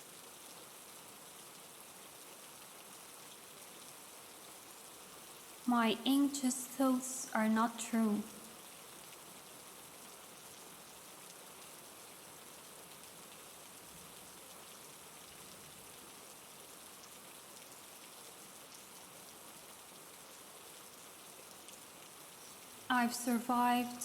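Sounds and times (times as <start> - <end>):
soft rain patter: 0.0 - 24.0.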